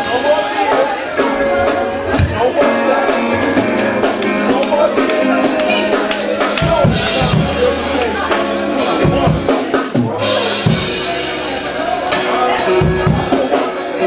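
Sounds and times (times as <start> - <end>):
voices singing or praying: 0.0 - 14.0
worship band playing: 0.0 - 14.0.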